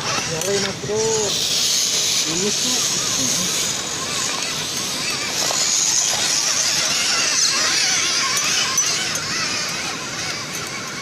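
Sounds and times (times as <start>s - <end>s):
small electric motor whining: 0.0s - 11.0s
steady hiss: 0.0s - 11.0s.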